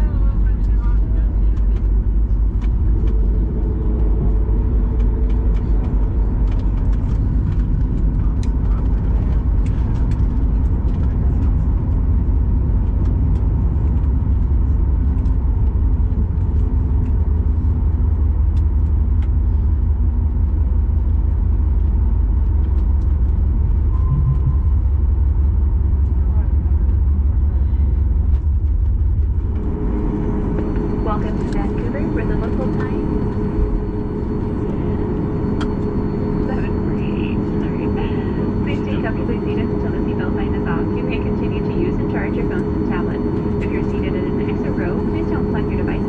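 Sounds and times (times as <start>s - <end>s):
aircraft rolling rumble: 0.0s - 46.0s
jet engines at low power: 0.0s - 46.0s.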